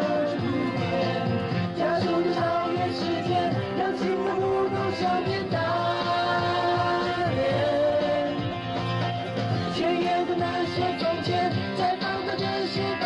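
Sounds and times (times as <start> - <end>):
person singing: 0.0 - 8.6, 9.7 - 13.0
pop ballad backing track: 0.0 - 13.0.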